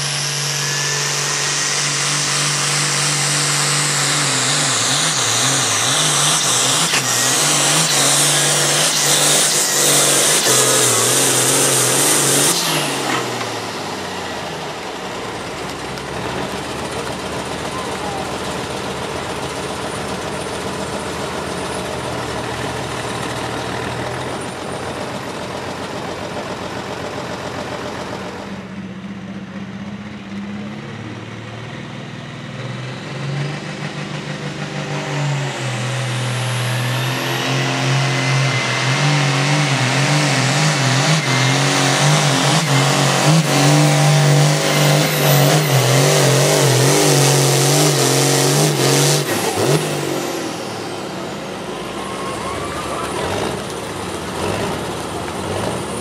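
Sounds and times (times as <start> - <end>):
rising whine: 0.0 - 56.0
tractor diesel engine revving: 0.0 - 56.0.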